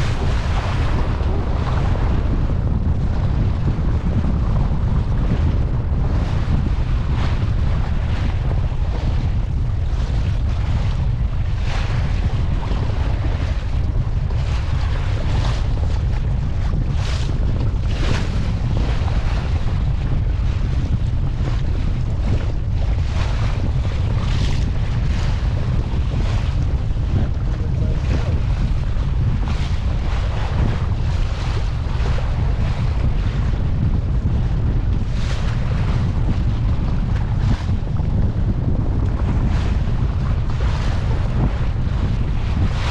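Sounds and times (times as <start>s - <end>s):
strong wind buffeting microphone: 0.0s - 42.9s.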